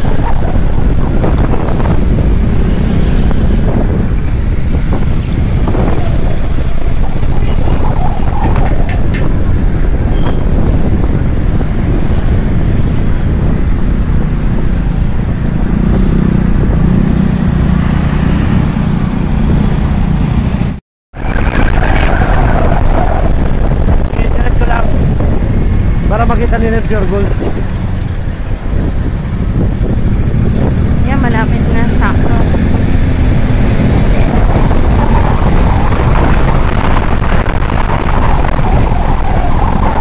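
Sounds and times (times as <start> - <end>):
wind rushing on microphone: 0.0 - 40.0.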